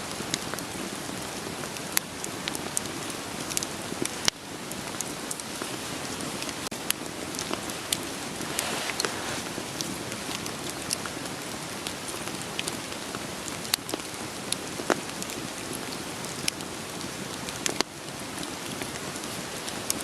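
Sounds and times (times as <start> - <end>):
steady rain hiss: 0.0 - 20.0
burning firewood crackling: 0.1 - 20.0.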